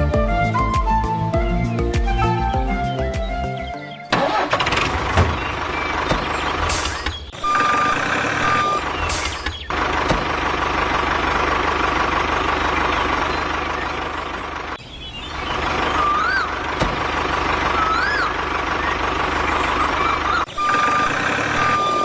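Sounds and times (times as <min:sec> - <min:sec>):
tractor engine rumbling: 0:00.0 - 0:22.0.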